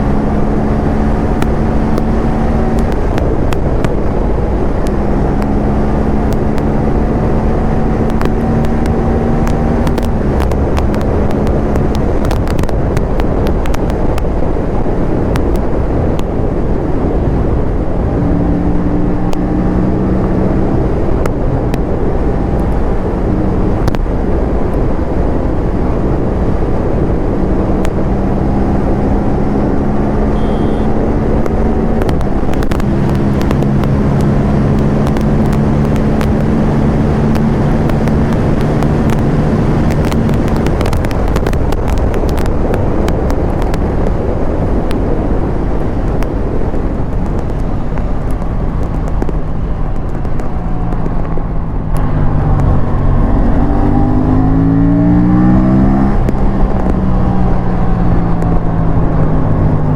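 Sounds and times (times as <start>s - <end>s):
exhaust crackles: 0.0s - 59.9s
motorcycle engine at speed: 0.0s - 59.9s
wind rushing: 0.0s - 59.9s.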